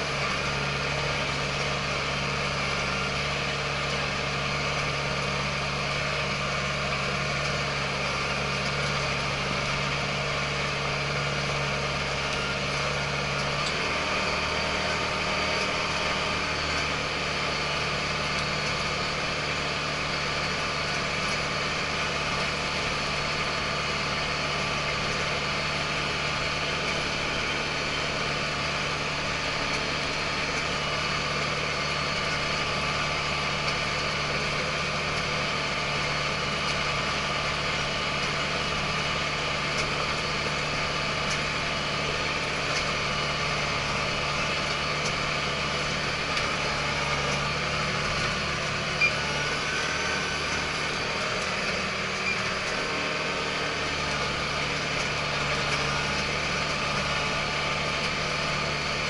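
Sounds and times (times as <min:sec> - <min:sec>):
tractor diesel engine droning: 0:00.0 - 0:59.0.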